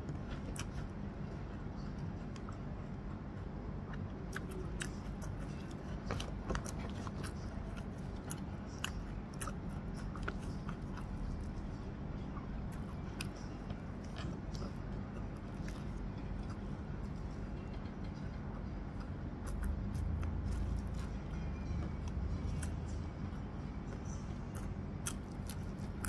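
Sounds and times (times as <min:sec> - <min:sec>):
steady low hum: 0:00.0 - 0:26.0
person chewing with crunches: 0:00.1 - 0:01.0, 0:02.3 - 0:11.9, 0:12.6 - 0:26.0.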